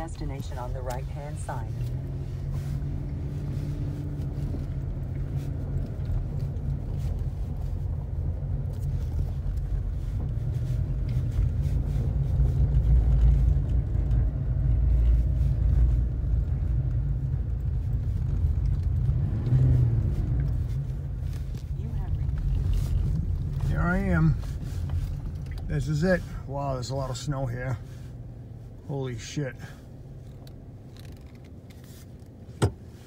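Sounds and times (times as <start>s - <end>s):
truck engine and tyres rumbling: 0.0s - 33.0s.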